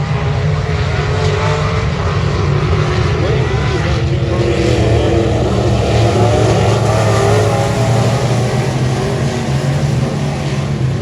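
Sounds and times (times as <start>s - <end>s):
race car engine running hard: 0.0s - 11.0s.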